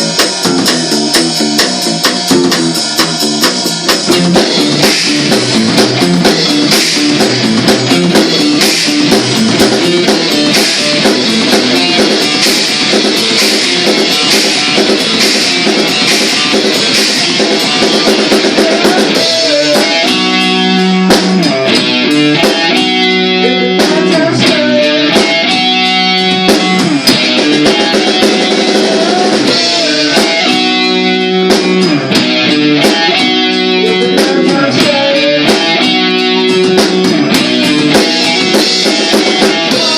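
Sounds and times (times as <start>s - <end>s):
electric guitar riff: 0.0s - 39.9s
rock band playing loud: 0.0s - 39.9s.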